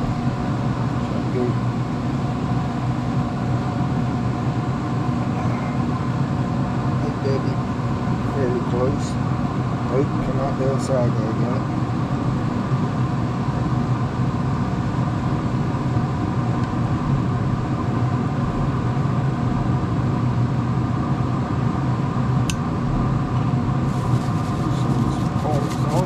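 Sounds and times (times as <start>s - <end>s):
grill fan humming: 0.0s - 26.0s.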